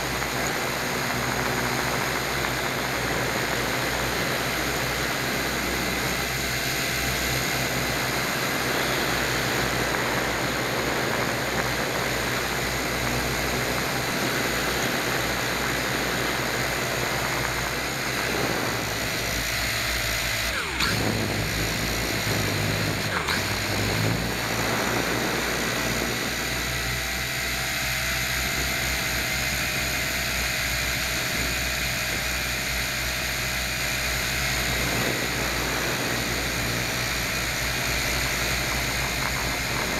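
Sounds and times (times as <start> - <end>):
model aircraft motor droning: 0.0 - 39.9.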